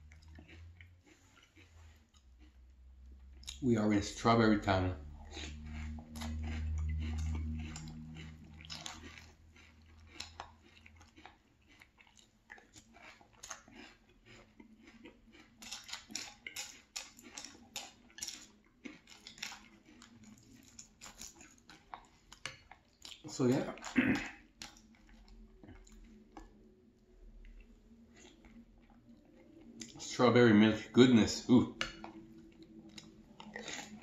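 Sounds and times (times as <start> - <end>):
chewing crunchy cereal: 0.0 - 34.0.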